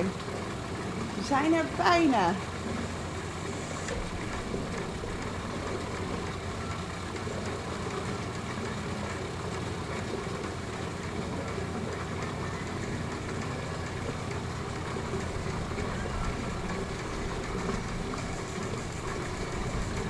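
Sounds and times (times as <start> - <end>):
constant background noise: 0.0 - 20.0
low mechanical hum: 0.0 - 20.0.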